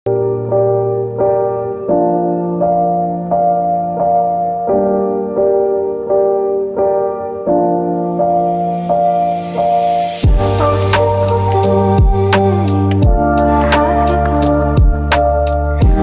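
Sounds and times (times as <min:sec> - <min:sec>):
calm instrumental music: 0:00.1 - 0:16.0.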